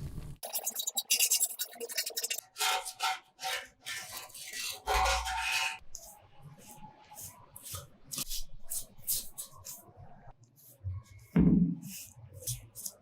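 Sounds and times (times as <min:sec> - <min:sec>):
scraping strokes on metal: 0:00.4 - 0:11.2.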